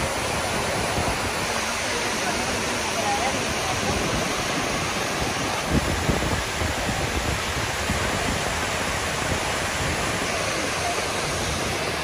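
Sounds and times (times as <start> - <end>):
water cascading into pool: 0.0 - 12.0.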